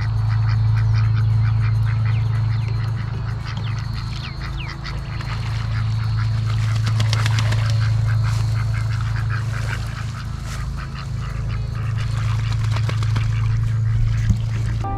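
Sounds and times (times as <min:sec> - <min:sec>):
birds calling in bursts: 0:00.0 - 0:14.9
steady low hum: 0:00.0 - 0:14.9.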